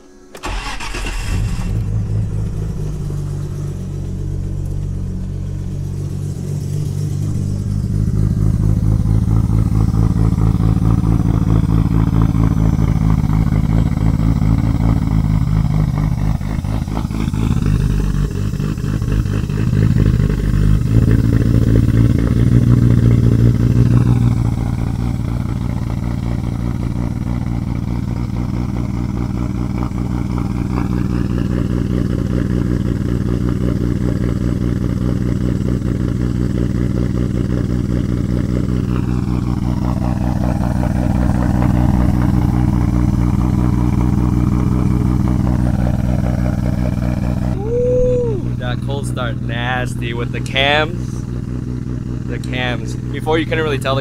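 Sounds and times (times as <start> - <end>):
car engine idling loud and deep: 0.0 - 54.0.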